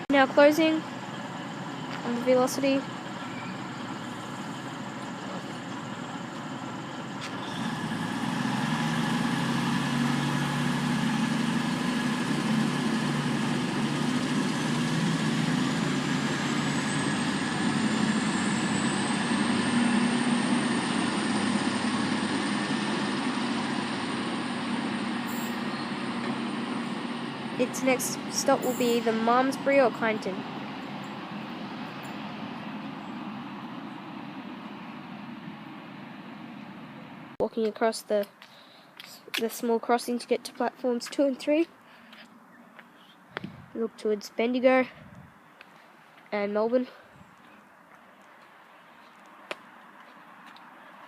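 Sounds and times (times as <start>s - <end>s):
diesel train engines: 0.0s - 51.0s.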